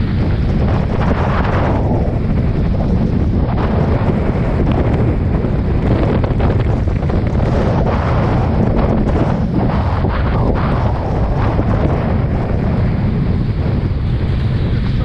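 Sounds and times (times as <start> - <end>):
wind blasting microphone: 0.0 - 15.0.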